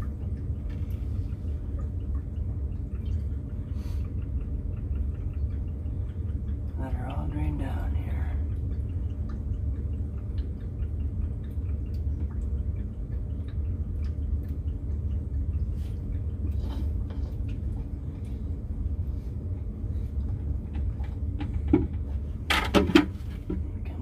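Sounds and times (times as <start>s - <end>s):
water draining through pipes: 0.0s - 24.0s.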